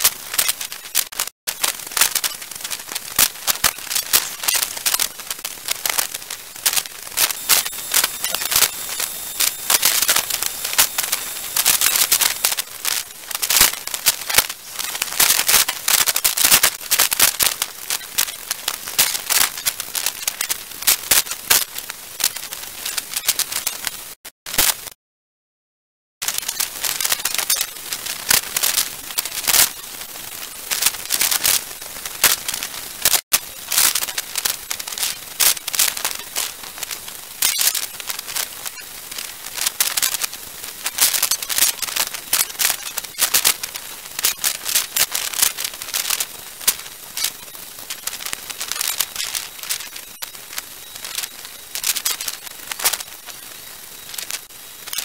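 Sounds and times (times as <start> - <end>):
rain and wind crackling: 0.0 - 22.8, 26.8 - 55.0.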